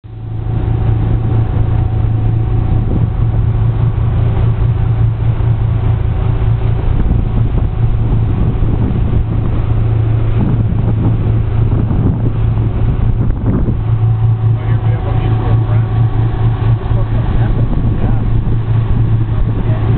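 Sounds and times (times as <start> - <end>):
engine droning: 0.0 - 19.9
rushing noise: 0.0 - 19.9.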